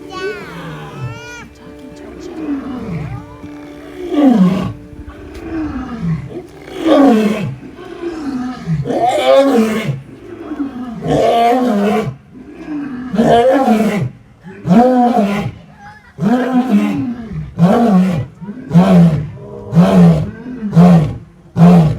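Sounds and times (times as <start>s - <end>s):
lion roaring: 0.0s - 15.6s, 16.2s - 21.9s.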